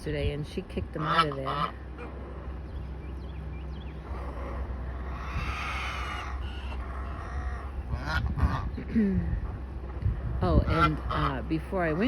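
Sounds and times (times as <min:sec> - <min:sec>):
steady low rumble: 0:00.0 - 0:12.0
hens making soft calls: 0:01.0 - 0:12.0.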